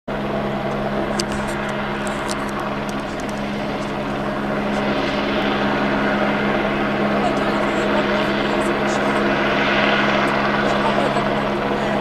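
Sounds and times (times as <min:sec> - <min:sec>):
helicopter engine and rotors: 0:00.1 - 0:12.0.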